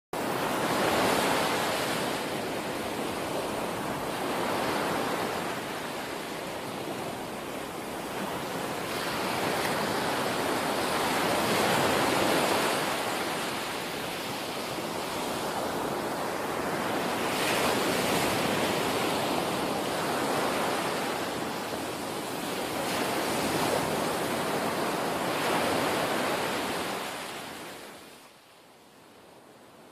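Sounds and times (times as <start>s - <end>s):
ocean waves breaking: 0.2s - 28.1s.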